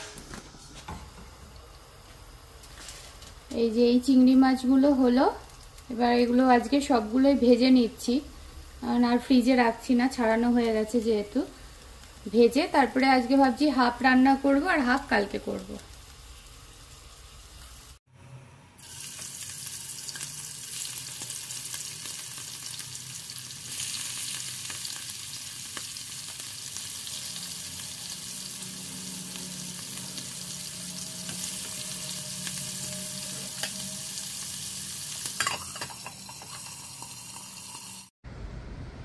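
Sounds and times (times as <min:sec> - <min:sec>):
prawns sizzling in hot oil: 0:01.4 - 0:18.0, 0:18.8 - 0:38.2.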